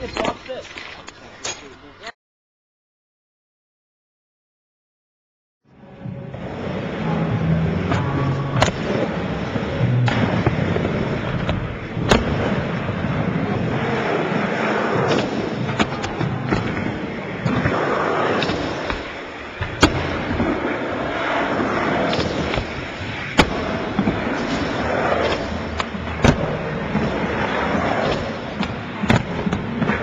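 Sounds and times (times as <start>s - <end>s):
skateboard wheels rumbling: 5.9s - 30.0s.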